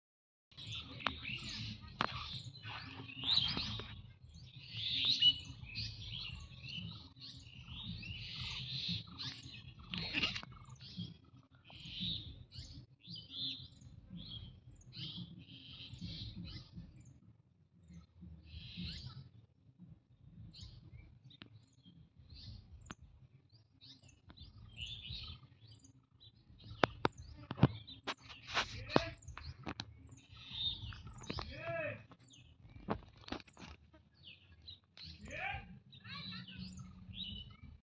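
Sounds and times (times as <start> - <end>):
small birds chirping: 0.5 - 37.8.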